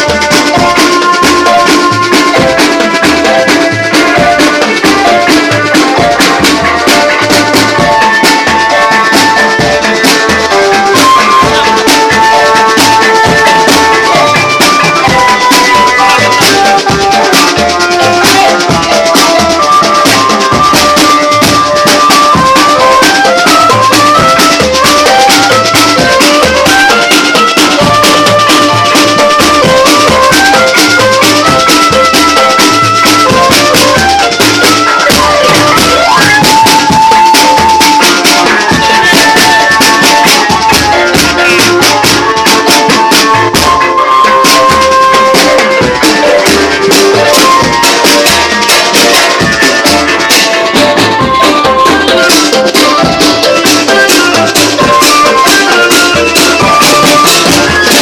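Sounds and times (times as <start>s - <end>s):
lead melody: 0.0s - 58.0s
shaker rhythm: 0.0s - 58.0s
steady drum beat: 0.0s - 58.0s.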